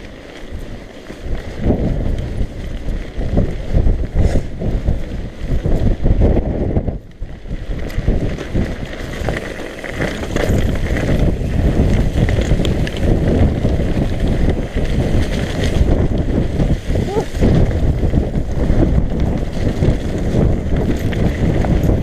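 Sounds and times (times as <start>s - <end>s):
bike rattling: 0.0s - 22.0s
tyres rumbling over rough ground: 0.0s - 22.0s
wind buffeting microphone: 0.0s - 22.0s.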